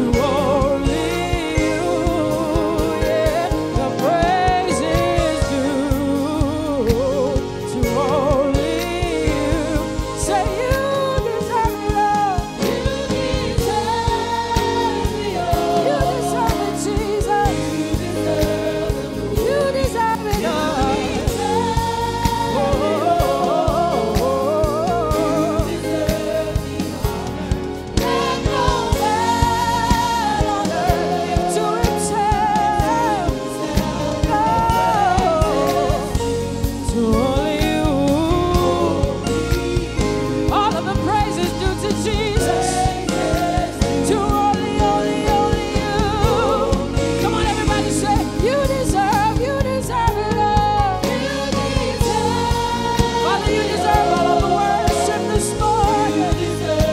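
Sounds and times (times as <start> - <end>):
woman singing: 0.0 - 27.2, 28.0 - 56.9
band playing gospel music: 0.0 - 56.9.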